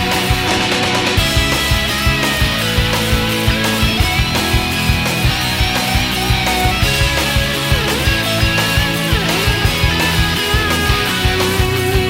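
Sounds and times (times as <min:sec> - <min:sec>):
electric guitar notes: 0:00.0 - 0:12.0
steady drum beat: 0:00.0 - 0:12.0.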